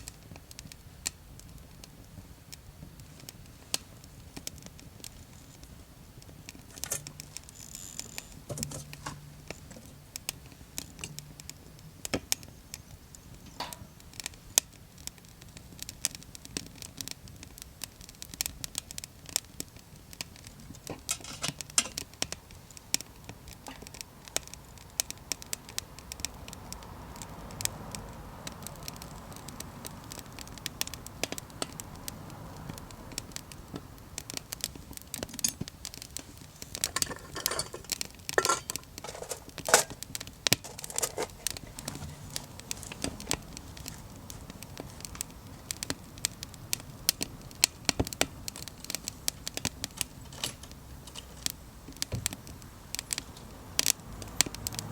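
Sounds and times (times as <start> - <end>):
burning wood snapping and popping: 0.0 - 54.9
small wood fire crackling: 0.0 - 54.9.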